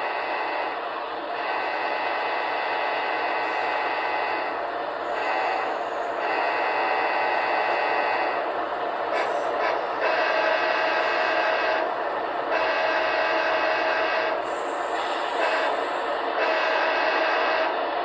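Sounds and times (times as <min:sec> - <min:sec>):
model locomotive horns chord: 0:00.0 - 0:00.8, 0:01.4 - 0:08.5, 0:09.2 - 0:14.5, 0:15.4 - 0:17.8
noisy hiss: 0:00.0 - 0:18.0.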